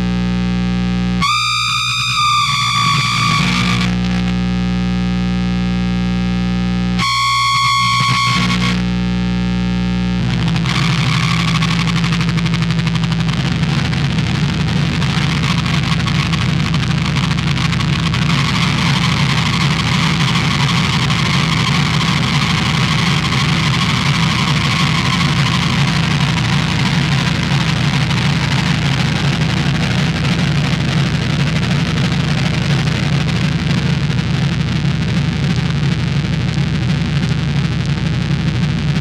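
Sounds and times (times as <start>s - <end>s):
distorted synth drone: 0.0s - 4.5s, 7.0s - 39.0s.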